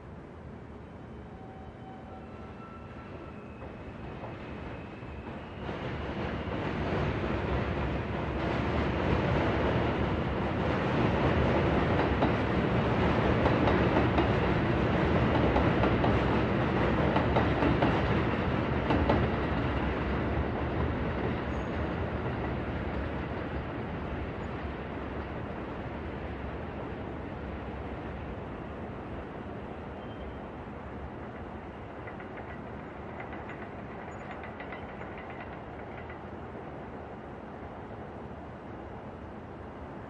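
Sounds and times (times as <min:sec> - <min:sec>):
subway train rumble: 0:00.0 - 0:40.0.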